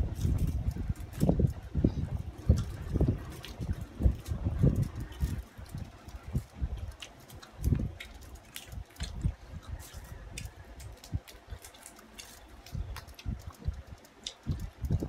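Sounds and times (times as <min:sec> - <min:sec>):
wet chewing and smacking: 0:00.0 - 0:15.0.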